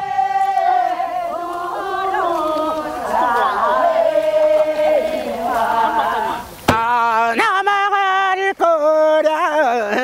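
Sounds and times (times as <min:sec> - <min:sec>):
group singing folk song: 0:00.0 - 0:10.0.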